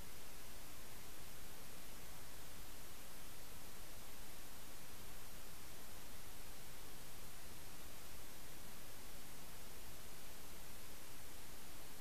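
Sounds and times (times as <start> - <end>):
steady microphone hiss: 0.0 - 12.0.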